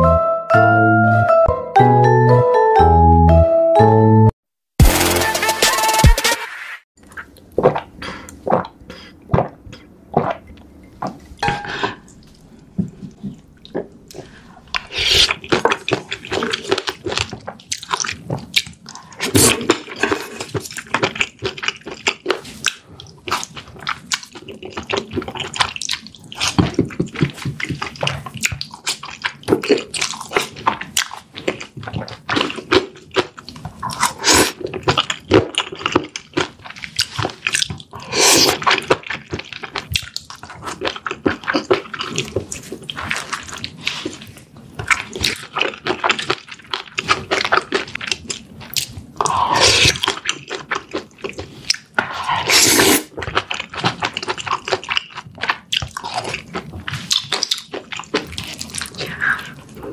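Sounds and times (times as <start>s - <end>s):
wet chewing and slurping: 7.0s - 59.9s.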